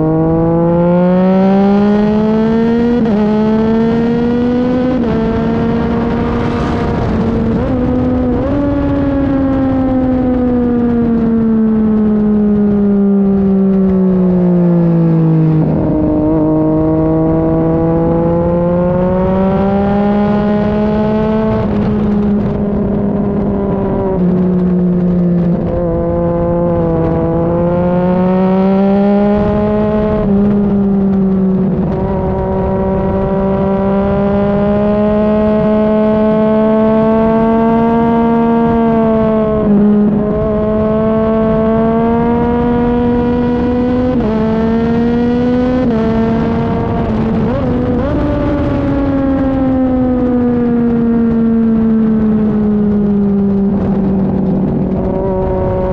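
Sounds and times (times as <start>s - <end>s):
motorcycle engine revving: 0.0s - 55.9s
wind rushing: 0.0s - 55.9s.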